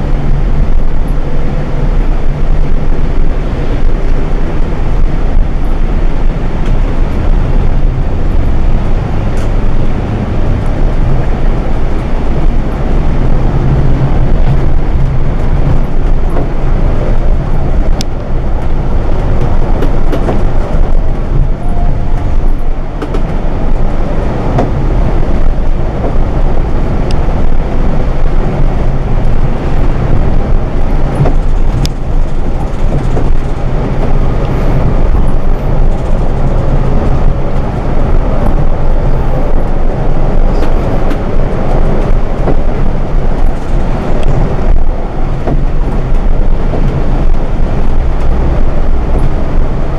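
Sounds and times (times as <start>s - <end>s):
bus engine drone: 0.0s - 49.9s
road and wind noise: 0.0s - 49.9s.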